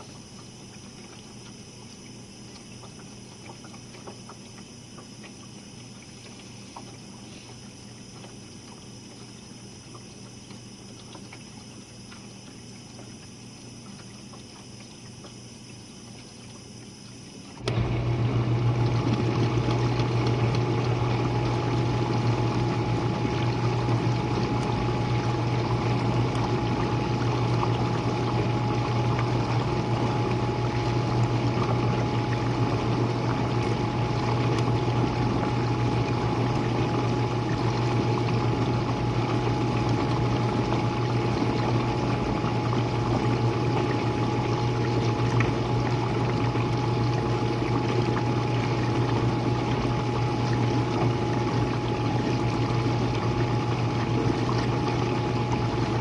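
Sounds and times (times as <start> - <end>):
dishwasher pump hum: 0.0 - 56.0
thin steady whine: 0.0 - 56.0.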